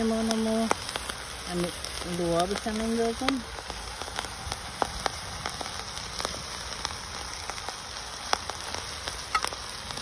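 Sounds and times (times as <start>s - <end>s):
pot on fire hissing: 0.0s - 10.0s
sharp crackles and pops: 0.0s - 10.0s.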